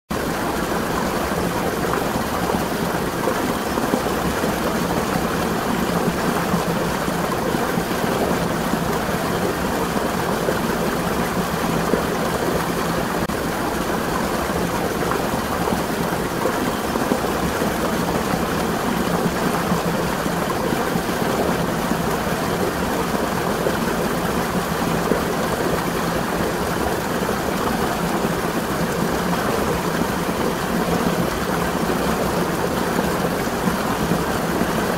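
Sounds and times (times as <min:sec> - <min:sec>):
water flowing from spring: 0:00.1 - 0:34.9.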